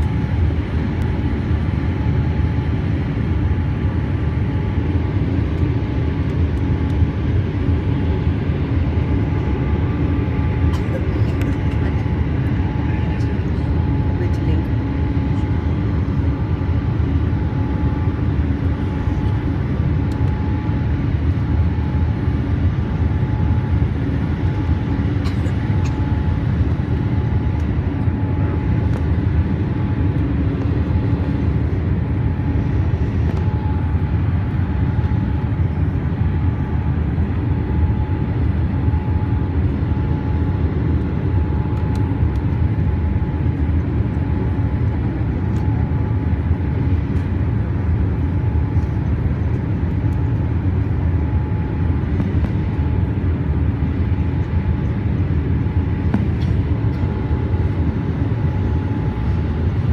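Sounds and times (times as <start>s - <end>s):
faint steady whine: 0.0s - 59.9s
jet engines and airflow rumble: 0.0s - 59.9s.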